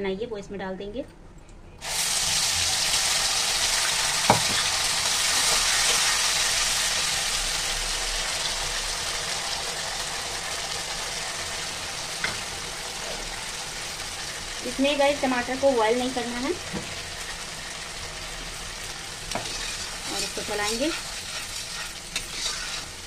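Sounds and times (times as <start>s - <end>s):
gravy sizzling in hot oil: 1.8s - 23.0s.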